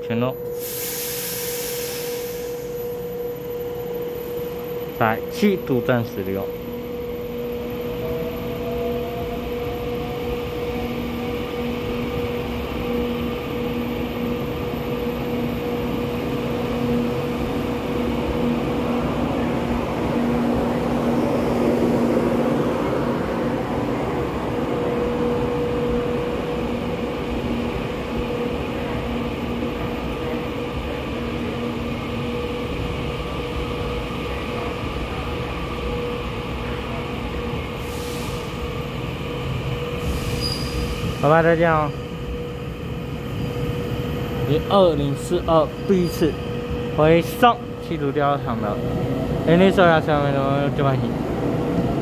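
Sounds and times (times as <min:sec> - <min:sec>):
electric train motor hum and whine: 0:00.0 - 0:52.0.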